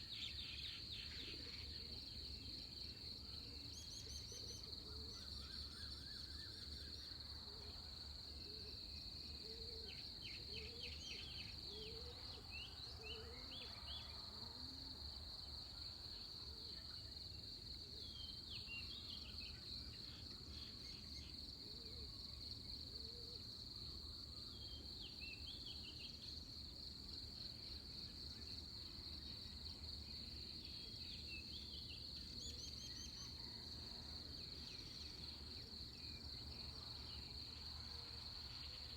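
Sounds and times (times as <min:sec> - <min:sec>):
crickets droning: 0:00.0 - 0:38.9.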